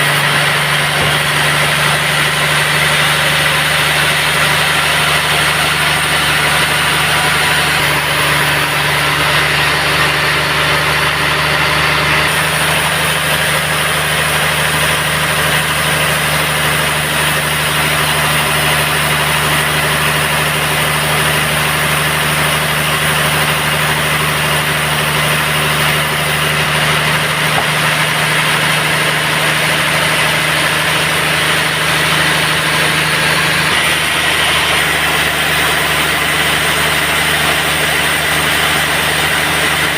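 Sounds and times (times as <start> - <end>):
band sawmill hum: 0.0 - 39.9.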